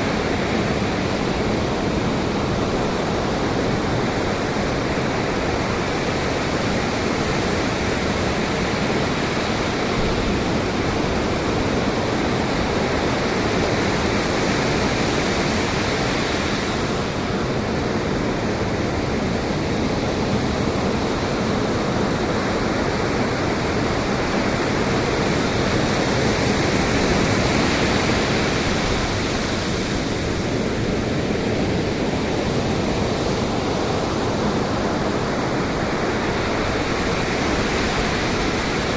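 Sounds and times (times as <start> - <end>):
waves breaking: 0.0 - 38.9
wind: 0.0 - 38.9.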